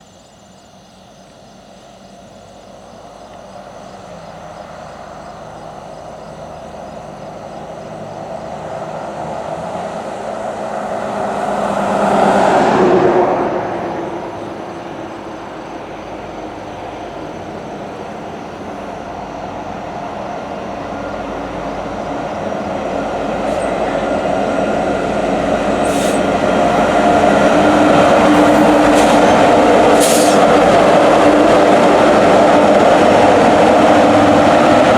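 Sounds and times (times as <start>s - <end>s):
diesel locomotive engines: 0.0s - 34.9s.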